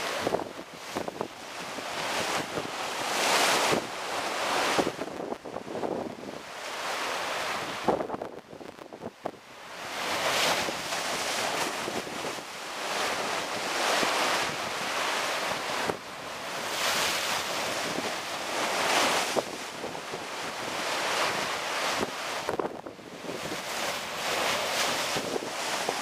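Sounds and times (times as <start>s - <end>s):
sea surf breaking: 0.0s - 9.0s, 9.6s - 26.0s
wind buffeting microphone: 0.0s - 26.0s.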